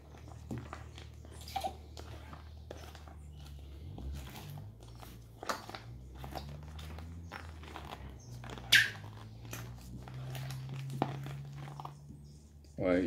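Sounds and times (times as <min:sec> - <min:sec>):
slime squelching in plastic bowl: 0:00.0 - 0:12.8.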